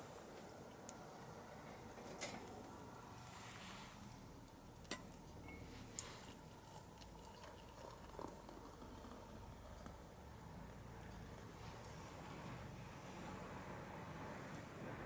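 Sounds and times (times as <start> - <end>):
low steady hiss of fire: 0.0 - 15.0.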